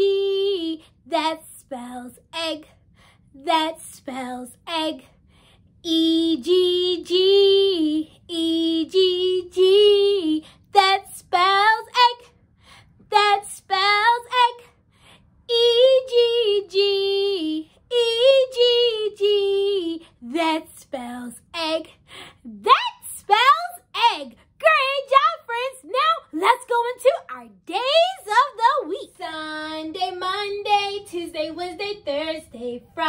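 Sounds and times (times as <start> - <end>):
woman singing unaccompanied: 0.0 - 2.7, 5.8 - 12.3, 15.5 - 33.0.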